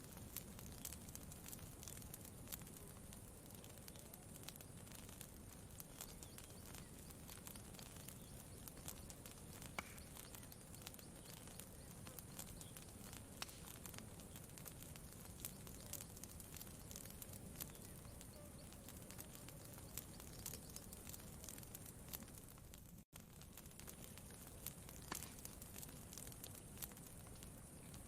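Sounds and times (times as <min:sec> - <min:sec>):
campfire snaps and pops: 0:00.0 - 0:28.0.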